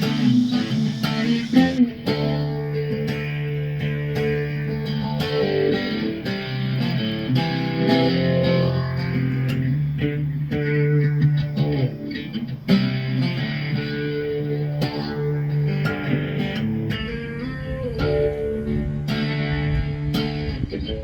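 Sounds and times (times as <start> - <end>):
plucked and strummed guitar: 0.0 - 21.0.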